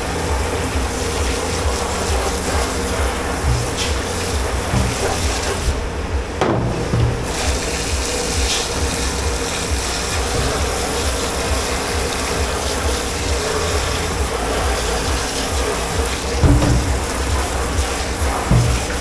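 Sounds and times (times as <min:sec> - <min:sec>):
dishwashing machinery rumble: 0:00.0 - 0:19.0.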